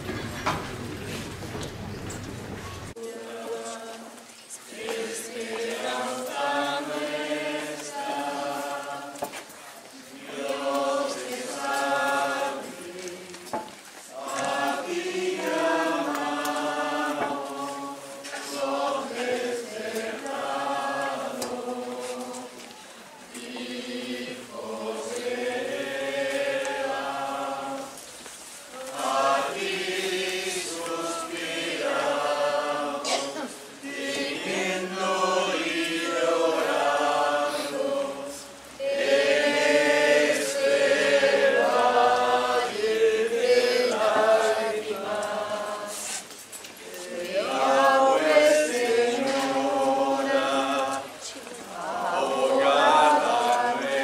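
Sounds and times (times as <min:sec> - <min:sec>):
group singing a hymn: 0:02.9 - 0:54.0.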